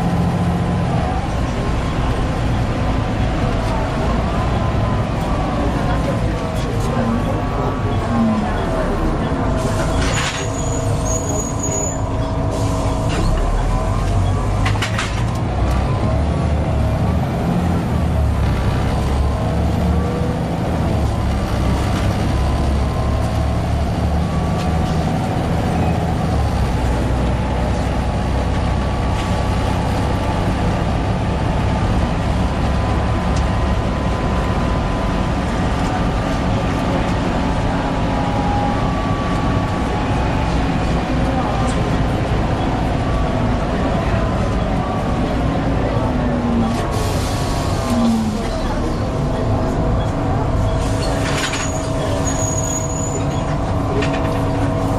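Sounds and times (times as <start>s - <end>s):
bus engine with wailing whine: 0.0s - 54.9s.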